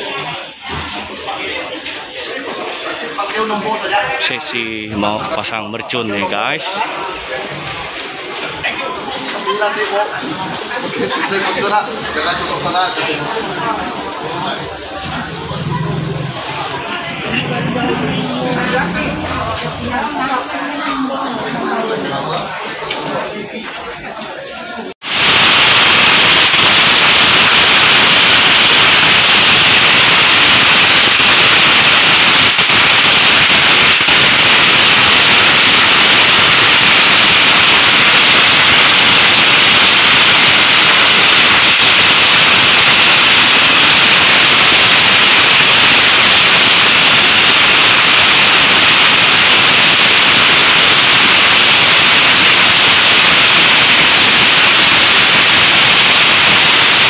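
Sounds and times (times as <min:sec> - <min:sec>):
firecrackers crackling: 0:00.0 - 0:20.6, 0:25.0 - 0:57.0.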